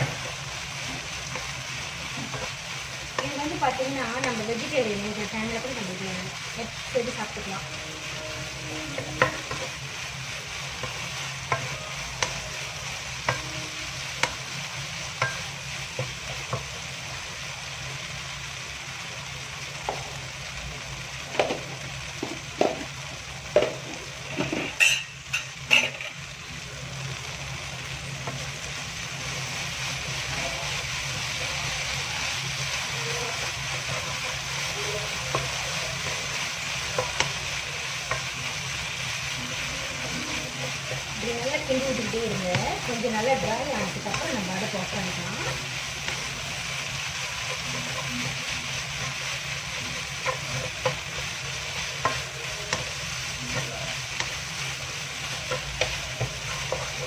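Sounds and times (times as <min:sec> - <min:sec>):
spatula stirring and scraping: 0:00.0 - 0:17.1, 0:28.2 - 0:57.0
okra sizzling in wok: 0:00.0 - 0:57.0.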